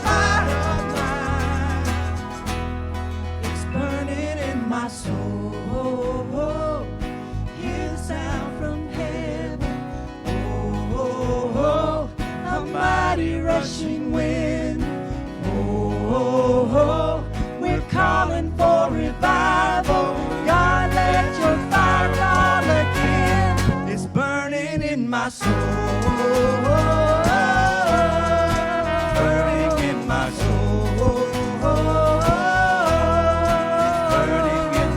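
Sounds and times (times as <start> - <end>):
steady bass: 0.0 - 24.3, 25.4 - 34.9
guitar: 0.0 - 34.9
person singing with vibrato: 0.0 - 34.9.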